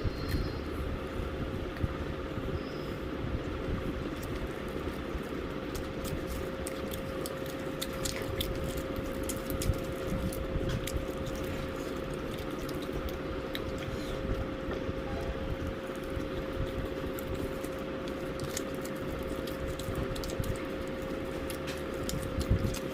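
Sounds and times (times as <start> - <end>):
low rumble with hum: 0.0 - 22.9
person chewing crunchy food: 3.1 - 22.9.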